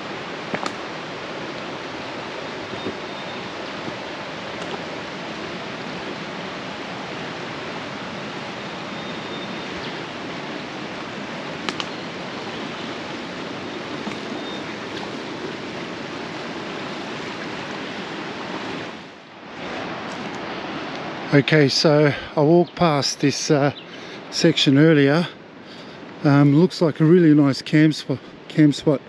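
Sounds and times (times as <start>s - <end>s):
river water rushing over rocks: 0.0s - 29.0s.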